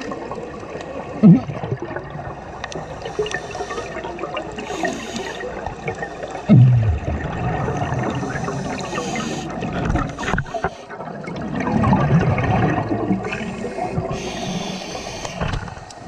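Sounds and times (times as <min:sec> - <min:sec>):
bubbles gurgling underwater: 0:00.0 - 0:16.0.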